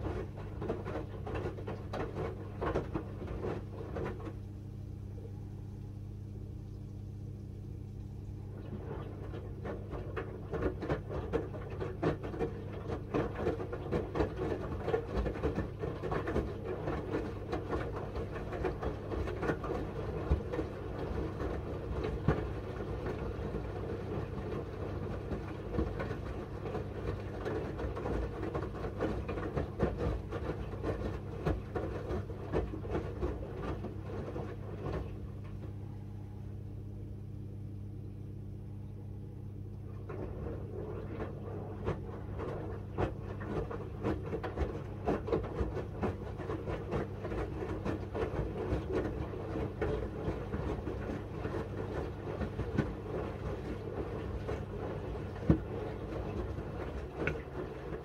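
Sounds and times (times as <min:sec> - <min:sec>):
washing machine drum tumbling: 0:00.0 - 0:04.4, 0:08.4 - 0:36.3, 0:39.9 - 0:58.0
low machine hum: 0:00.0 - 0:58.0.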